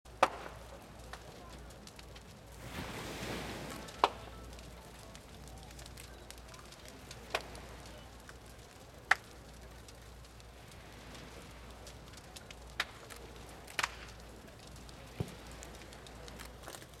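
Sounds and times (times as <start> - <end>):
fire crackling: 0.1 - 17.0
sharp loud cracks of fire: 0.1 - 17.0.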